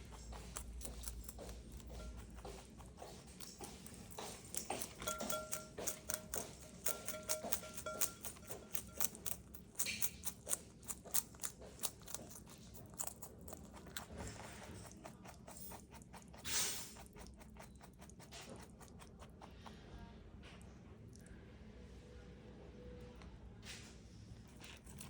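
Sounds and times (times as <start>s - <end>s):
rabbit crunching vegetables: 0.0s - 25.0s.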